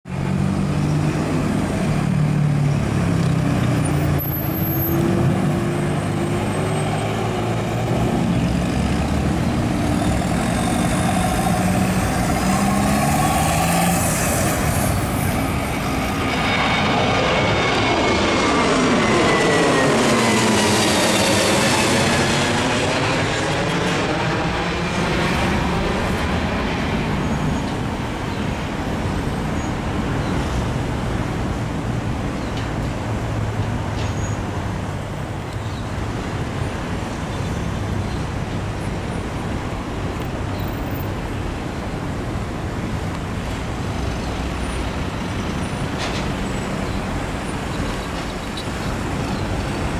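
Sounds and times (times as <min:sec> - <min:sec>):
road traffic engines: 0:00.0 - 0:49.9
jet plane passing overhead: 0:00.2 - 0:49.9.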